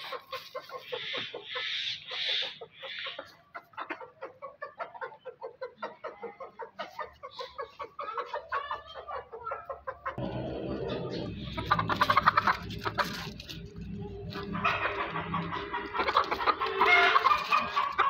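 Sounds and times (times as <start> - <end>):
hen clucking: 0.0 - 18.0.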